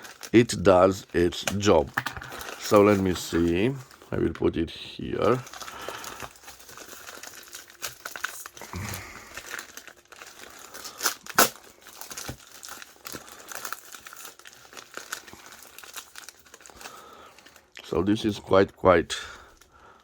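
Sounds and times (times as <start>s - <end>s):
packaging crinkling and tearing: 0.0s - 4.4s, 5.0s - 18.4s.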